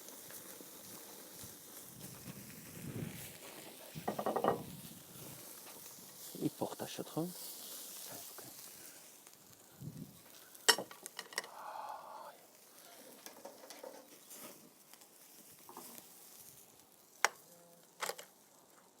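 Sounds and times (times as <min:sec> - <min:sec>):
faint sizzling: 0:00.0 - 0:19.0.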